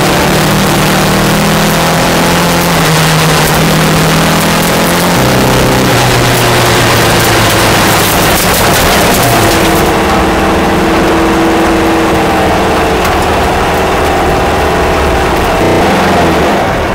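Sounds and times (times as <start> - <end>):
car engine running: 0.0 - 16.9
tyre noise on dirt road: 0.0 - 16.9.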